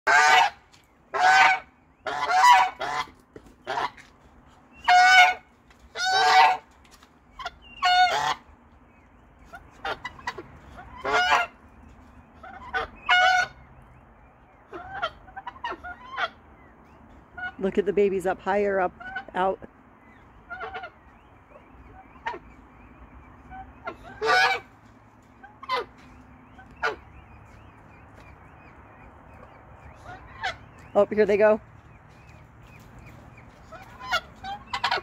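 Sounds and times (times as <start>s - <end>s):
peafowl honking calls: 0.1s - 35.0s.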